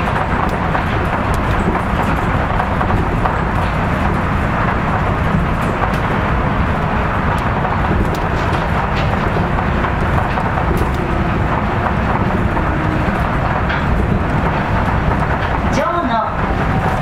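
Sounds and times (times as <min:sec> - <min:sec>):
monorail train rumble: 0:00.0 - 0:17.0.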